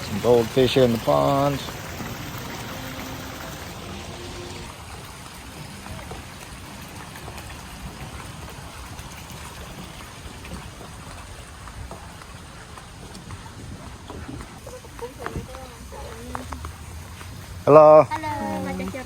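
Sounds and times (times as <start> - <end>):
water splashing into pond: 0.0 - 19.0.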